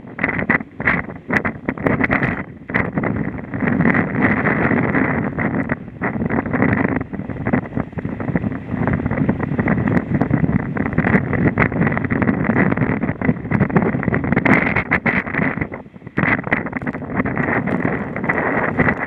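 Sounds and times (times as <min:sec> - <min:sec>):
breaking sea rushing: 0:00.0 - 0:19.0
wind buffeting microphone: 0:00.0 - 0:19.0.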